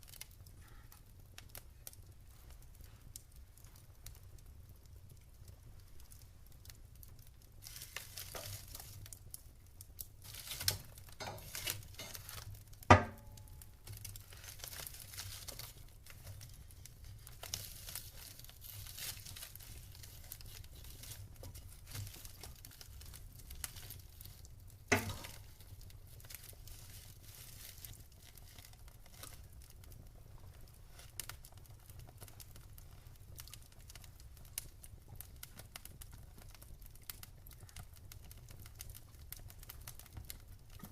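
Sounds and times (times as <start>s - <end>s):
wood fire crackling: 0.0s - 40.9s
loud sharp pops from fire: 6.0s - 40.9s.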